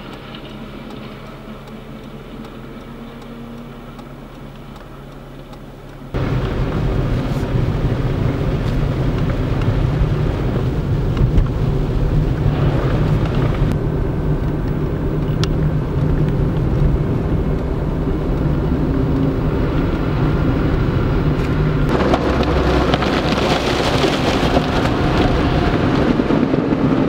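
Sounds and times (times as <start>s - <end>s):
highway traffic rumble: 0.0s - 27.0s.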